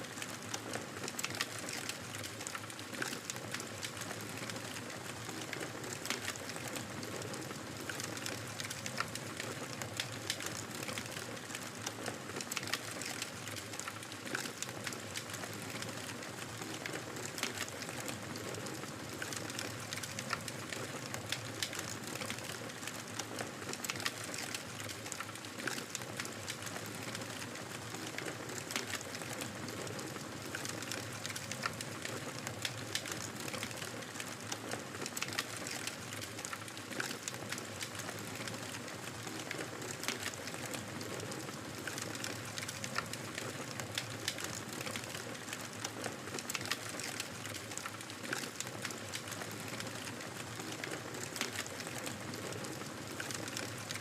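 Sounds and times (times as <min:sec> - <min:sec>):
fire crackling and popping: 0:00.1 - 0:54.0.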